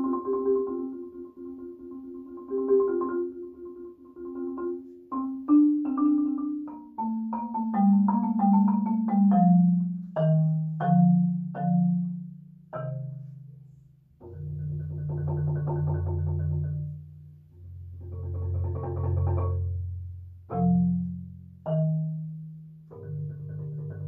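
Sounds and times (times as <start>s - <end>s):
marimba chords: 0.0s - 24.0s.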